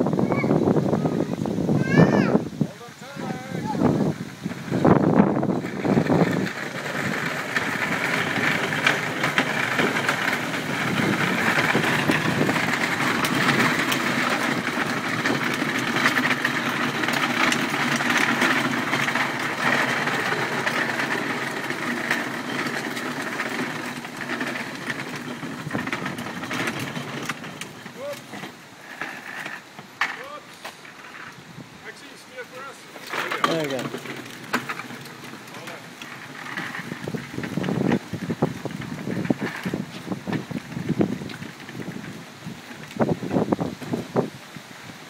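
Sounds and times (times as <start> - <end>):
plastic wheels rattling on a path: 0.0 - 45.0.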